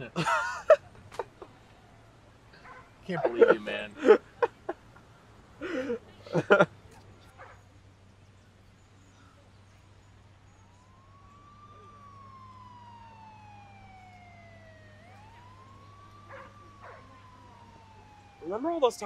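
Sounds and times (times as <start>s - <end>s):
distant siren wailing: 0.0s - 19.0s.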